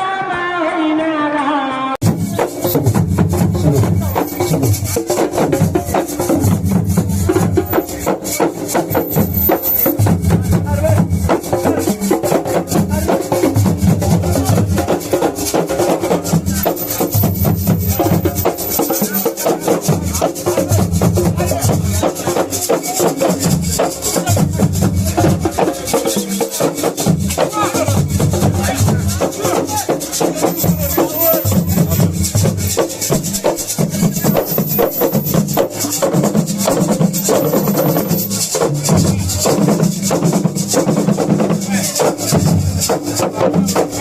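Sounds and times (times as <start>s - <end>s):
drums: 0.0s - 44.0s
shaker: 2.2s - 44.0s.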